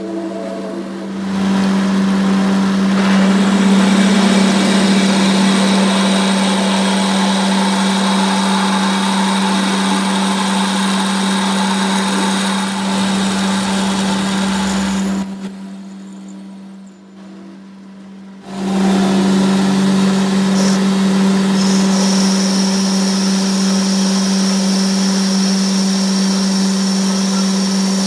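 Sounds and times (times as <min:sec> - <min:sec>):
harsh metalworking noise: 0:00.0 - 0:16.8, 0:18.4 - 0:28.0
machine humming: 0:00.0 - 0:28.0.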